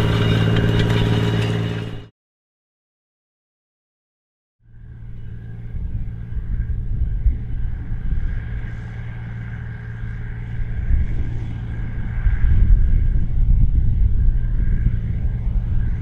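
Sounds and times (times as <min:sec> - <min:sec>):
tractor diesel engine drone: 0:00.0 - 0:02.1, 0:04.6 - 0:16.0.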